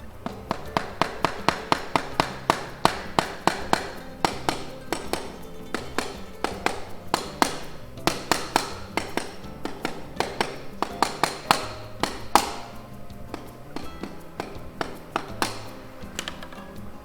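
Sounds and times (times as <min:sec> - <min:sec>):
soft background music: 0:00.0 - 0:17.0
metallic tool taps and clinks: 0:00.1 - 0:17.0.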